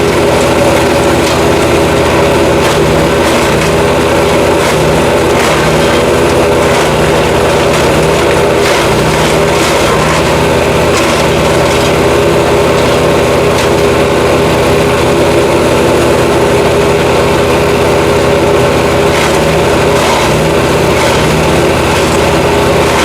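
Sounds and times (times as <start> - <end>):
wood chipper running: 0.0 - 23.0.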